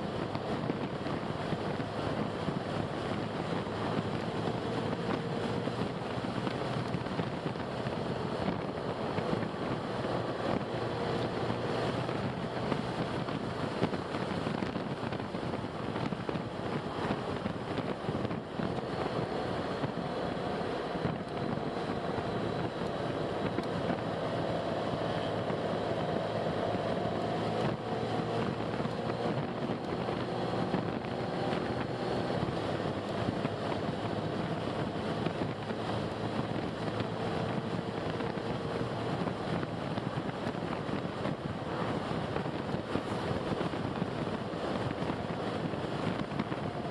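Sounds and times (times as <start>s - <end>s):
car road noise and engine hum: 0.0s - 46.9s.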